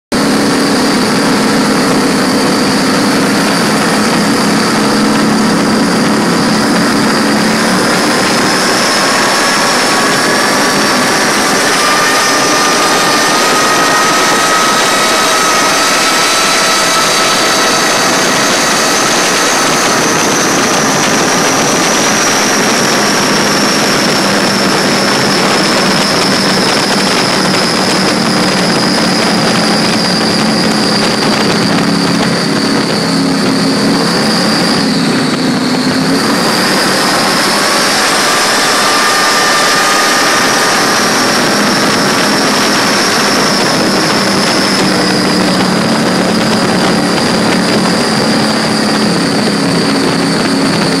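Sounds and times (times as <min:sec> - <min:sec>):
powerboat engines at high speed: 0:00.0 - 0:51.0
rush of wind and spray: 0:00.1 - 0:51.0.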